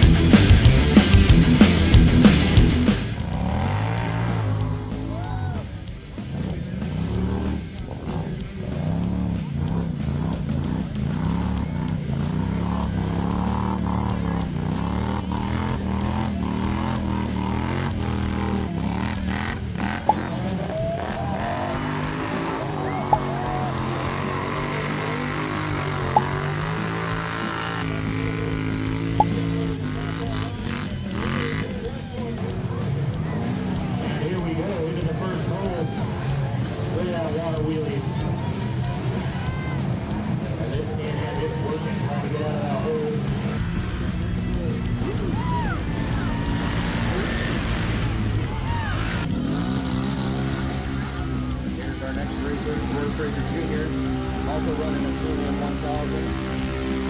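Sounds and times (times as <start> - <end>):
heavy rock music: 0.0 - 57.0
off-road vehicle engine revving: 0.0 - 57.0.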